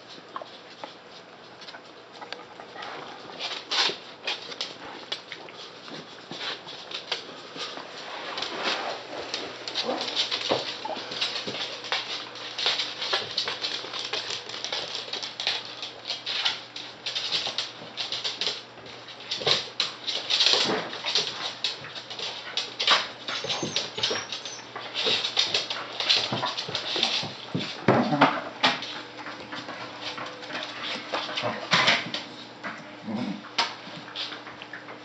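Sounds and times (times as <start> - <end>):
claws clicking on hardwood floor: 3.2 - 32.8.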